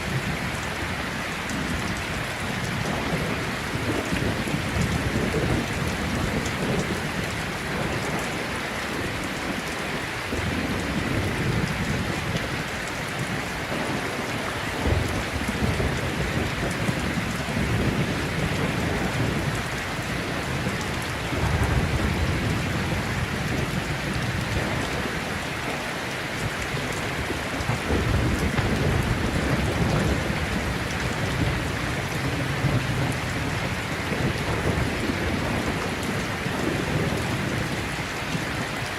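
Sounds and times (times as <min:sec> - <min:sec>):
rolling thunder: 0:00.0 - 0:38.7
heavy rain: 0:00.0 - 0:38.9.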